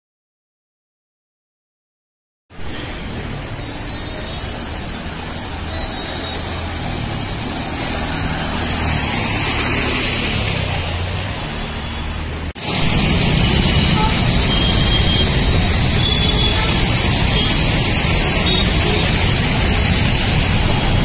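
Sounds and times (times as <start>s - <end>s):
water splashing under tyres: 2.7s - 21.0s
motorbike engines running: 3.2s - 21.0s.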